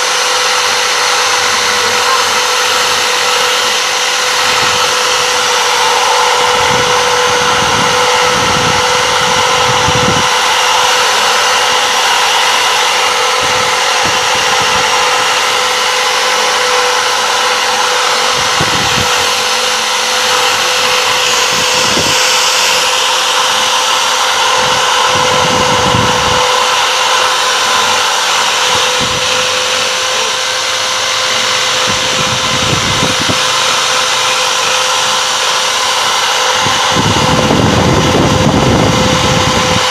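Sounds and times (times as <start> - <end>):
electric drill grinding metal: 0.0 - 39.9.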